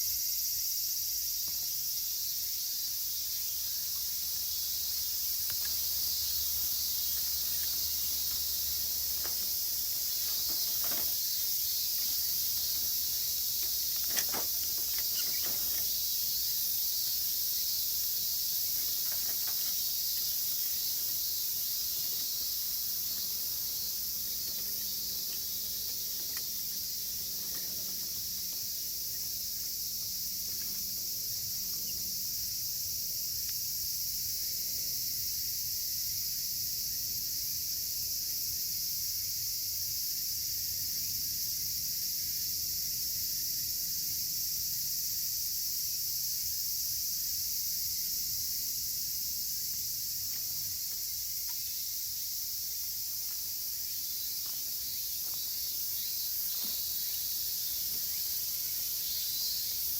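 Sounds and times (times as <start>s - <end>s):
cicadas shrilling: 0.0s - 59.9s.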